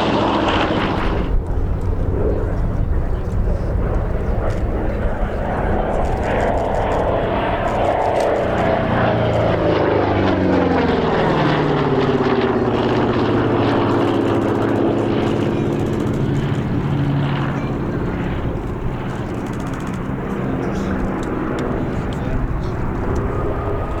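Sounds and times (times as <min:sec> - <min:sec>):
propeller aircraft engine flying past: 0:00.0 - 0:24.0.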